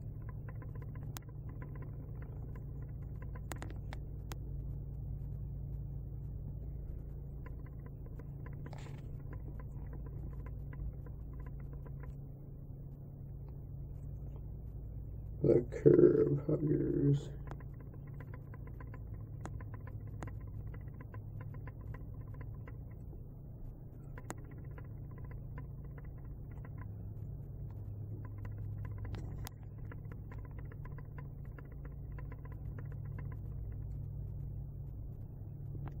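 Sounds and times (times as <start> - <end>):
faint clicks and crackle: 0.0 - 36.0
steady low hum: 0.0 - 36.0.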